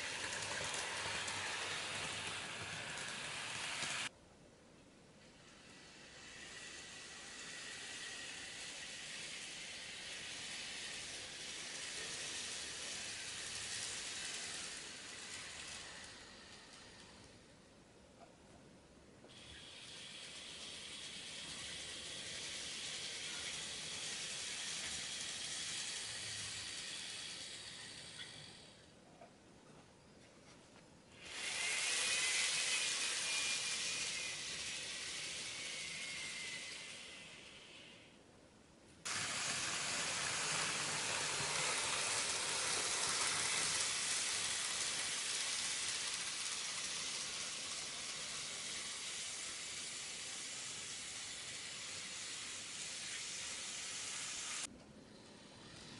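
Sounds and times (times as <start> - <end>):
model train motor and wheels hissing: 0.0 - 4.2, 5.2 - 17.7, 19.2 - 29.0, 31.1 - 38.3, 39.0 - 55.9
faint high whine: 1.1 - 55.9.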